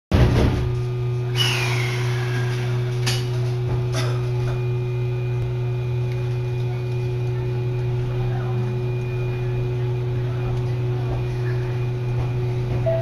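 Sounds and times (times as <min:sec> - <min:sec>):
train cabin low hum: 0:00.2 - 0:13.0.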